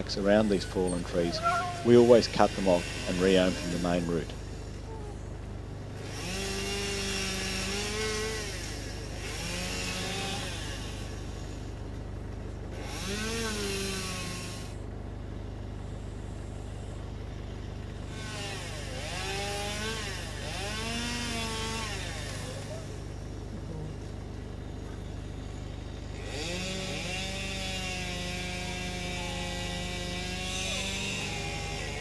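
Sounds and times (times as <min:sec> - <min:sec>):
chainsaw cutting through tree: 0:00.0 - 0:32.0
chainsaw revving and idling: 0:00.0 - 0:32.0.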